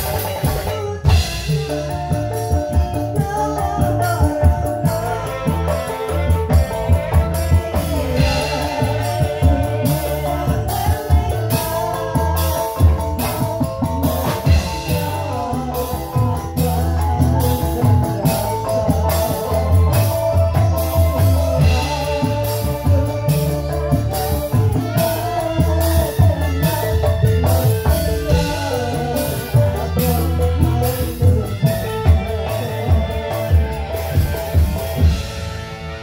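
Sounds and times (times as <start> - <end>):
live band dance music: 0.0 - 36.0.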